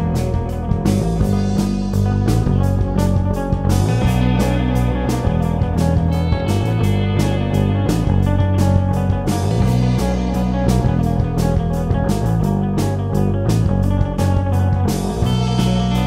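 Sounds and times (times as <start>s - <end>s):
deep sustained low notes: 0.0s - 16.0s
drum kit beat: 0.0s - 16.0s
electric guitar: 0.0s - 16.0s.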